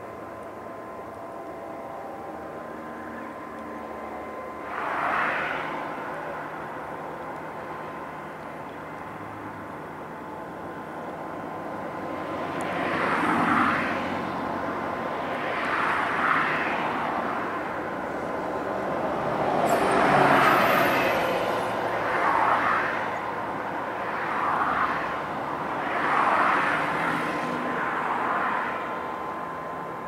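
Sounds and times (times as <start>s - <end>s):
distant propeller plane drone: 0.0s - 30.0s
thin steady whine: 0.0s - 30.0s.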